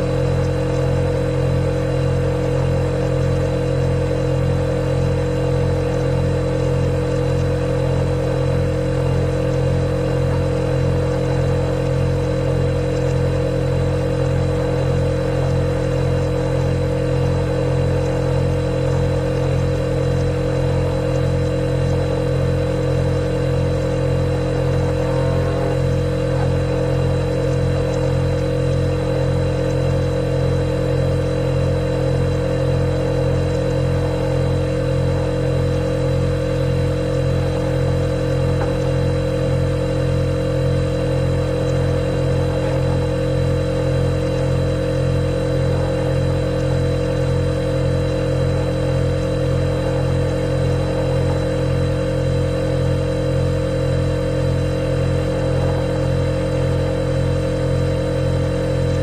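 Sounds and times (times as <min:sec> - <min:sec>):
refrigerator humming: 0:00.0 - 0:59.0.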